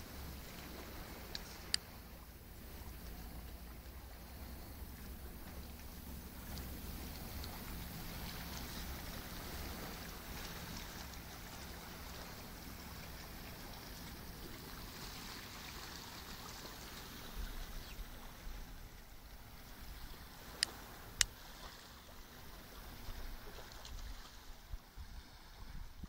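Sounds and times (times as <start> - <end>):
calm sea washing against rocks: 0.0 - 26.0.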